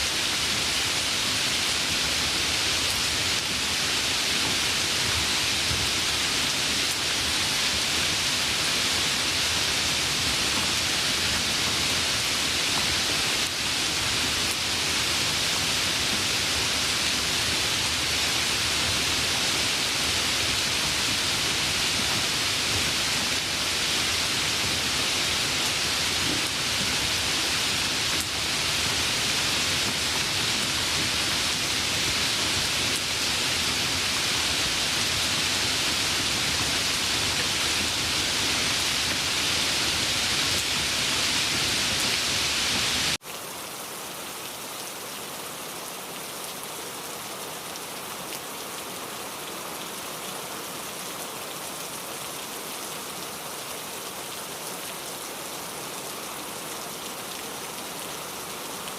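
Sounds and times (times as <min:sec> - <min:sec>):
dense rainfall: 0:00.0 - 0:58.9.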